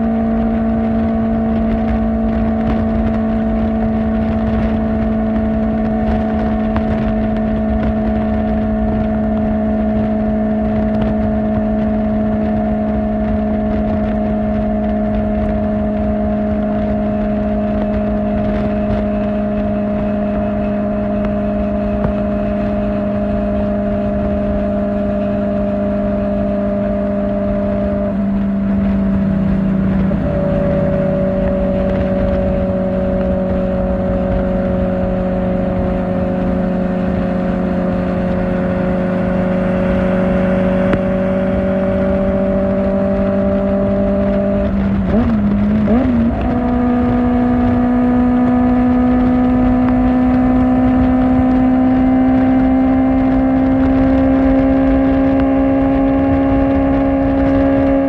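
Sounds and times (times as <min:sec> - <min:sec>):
motorcycle engine at high revs: 0:00.0 - 0:58.0
wind rush: 0:00.0 - 0:58.0.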